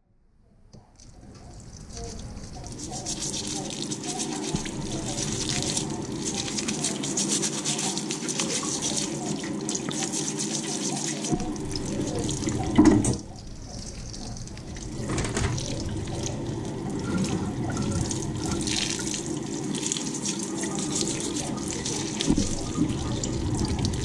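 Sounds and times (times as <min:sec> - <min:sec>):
tap water running into sink: 0:03.0 - 0:13.3, 0:14.6 - 0:24.0.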